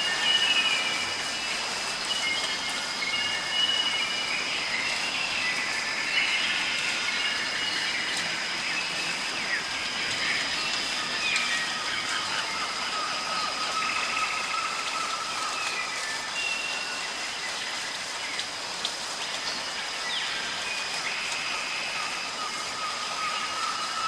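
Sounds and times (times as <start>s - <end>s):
faint constant high tone: 0.0s - 24.0s
steady rain: 0.0s - 24.0s.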